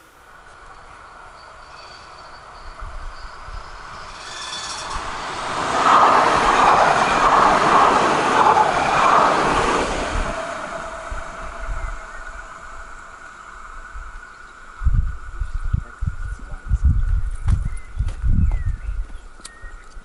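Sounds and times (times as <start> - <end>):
light-rail train passing on rails: 0.0 - 18.4.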